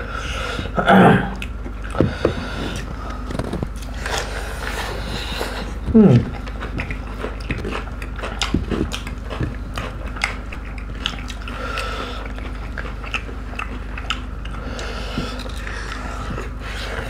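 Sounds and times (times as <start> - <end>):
low hum: 0.0 - 17.0
wet chewing and mouth smacks: 1.3 - 17.0.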